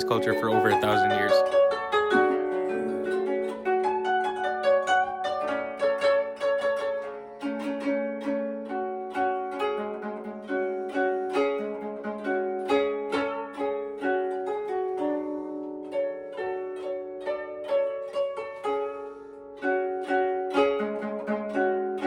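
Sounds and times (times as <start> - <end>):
zither plucked melody: 0.0 - 22.0.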